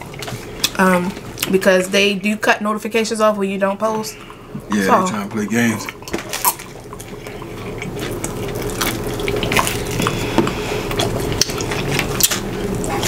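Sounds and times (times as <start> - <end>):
wet eating sounds: 0.0 - 1.8, 3.9 - 13.0.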